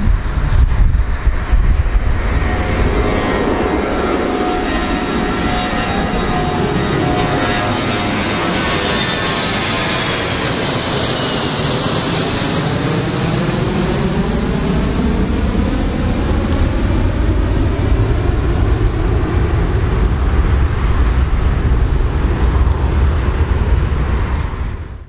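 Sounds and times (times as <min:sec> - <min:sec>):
deep engine rumble: 0:00.0 - 0:25.0
jet engines whining: 0:00.0 - 0:25.0.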